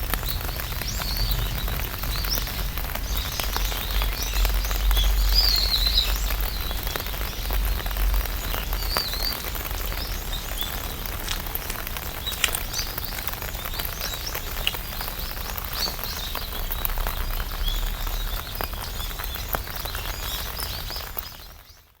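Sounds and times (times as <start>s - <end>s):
birds chirping: 0.0s - 22.0s
rain tapping on umbrella: 0.0s - 22.0s.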